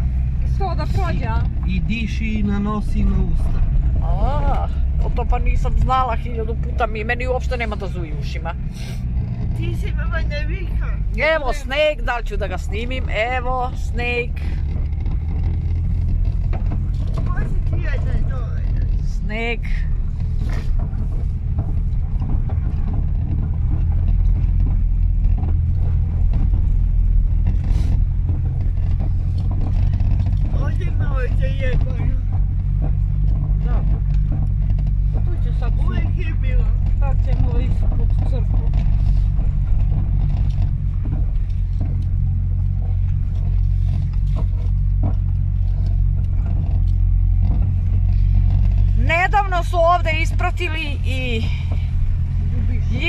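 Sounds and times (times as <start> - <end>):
car engine and tyre rumble: 0.0 - 53.0
small knocks and rattles: 4.7 - 53.0.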